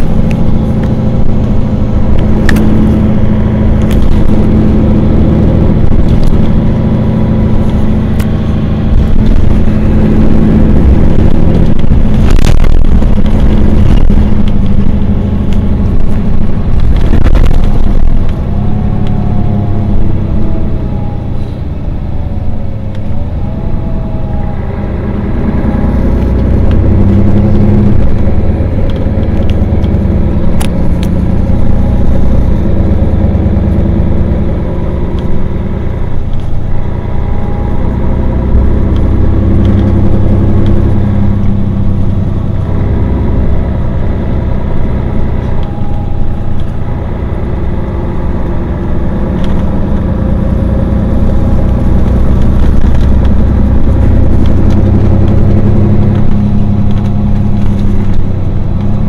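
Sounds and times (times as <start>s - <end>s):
bus engine idling: 0.0s - 59.0s.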